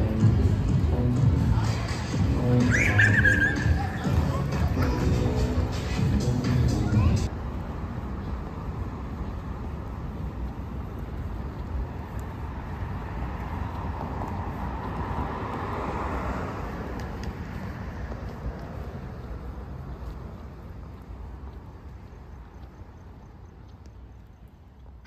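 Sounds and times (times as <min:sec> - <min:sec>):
vehicle passing: 0:00.0 - 0:23.7
road traffic rumble: 0:00.0 - 0:25.0.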